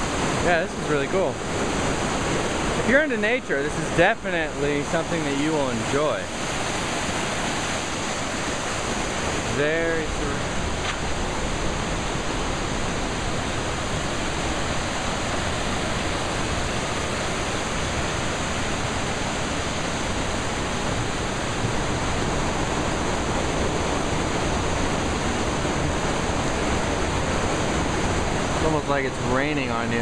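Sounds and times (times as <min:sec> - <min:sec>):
river water rushing over rocks: 0:00.0 - 0:30.0.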